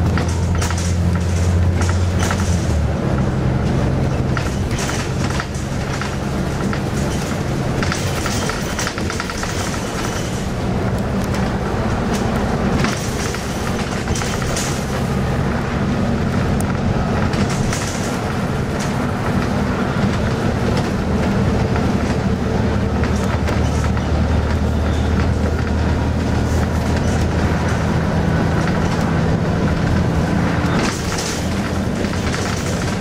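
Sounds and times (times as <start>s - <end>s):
bodywork rattles and clicks: 0.0s - 33.0s
bus engine running: 0.0s - 33.0s
road noise: 0.0s - 33.0s.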